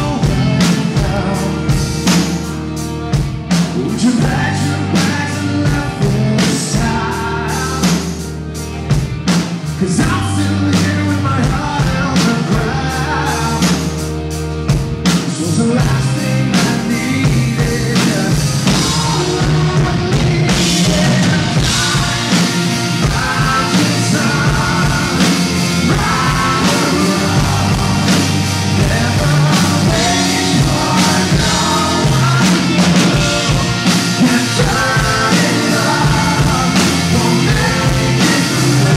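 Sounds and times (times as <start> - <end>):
person singing: 0.0 - 2.4, 3.1 - 8.4, 9.6 - 14.3, 15.0 - 38.9
live rock band playing: 0.0 - 38.9.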